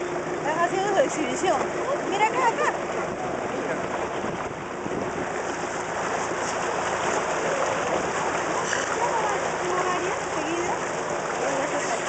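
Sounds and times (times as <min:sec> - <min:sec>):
surf rushing around rocks: 0:00.0 - 0:12.0.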